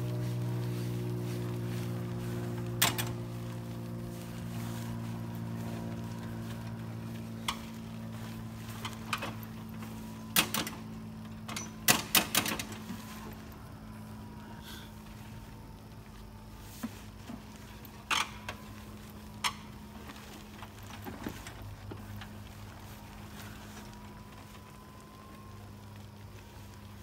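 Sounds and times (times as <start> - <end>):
blower fan humming: 0.0 - 27.0.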